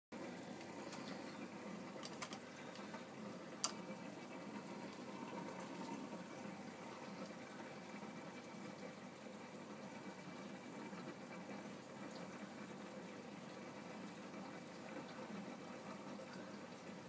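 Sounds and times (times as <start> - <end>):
aquarium water running: 0.1 - 17.0.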